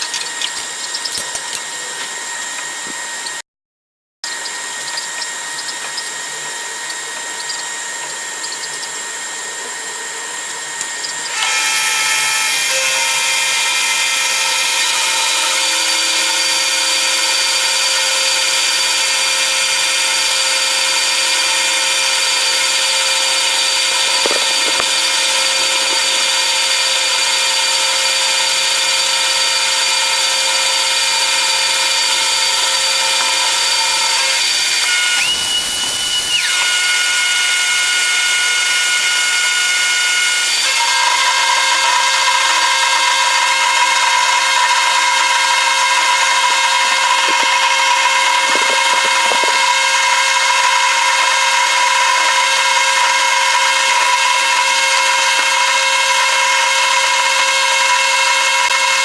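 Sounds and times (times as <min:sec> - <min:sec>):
power tool whine on metal: 0:00.0 - 0:03.4, 0:04.2 - 0:59.0.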